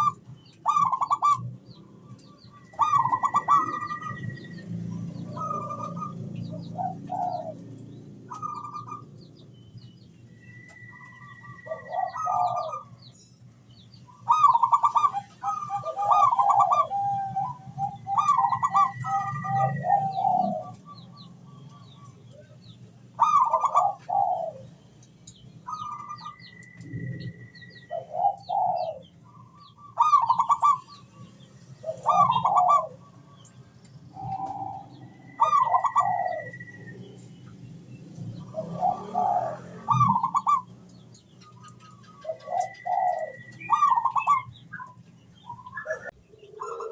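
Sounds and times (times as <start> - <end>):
dove cooing: 0.0 - 9.2, 10.5 - 13.0, 14.2 - 22.5, 23.2 - 24.8, 25.7 - 33.5, 34.1 - 37.3, 38.3 - 46.9
small birds chirping: 0.0 - 46.9.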